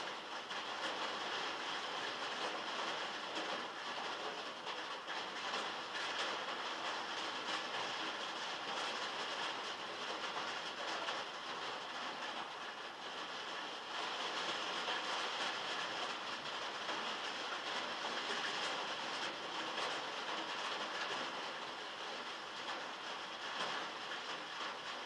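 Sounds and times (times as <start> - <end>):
heavy rain on metal roof: 0.0 - 25.0.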